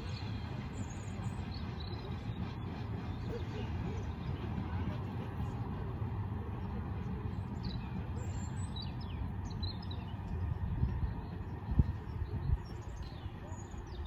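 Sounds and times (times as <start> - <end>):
distant electric train rumble: 0.0 - 14.0.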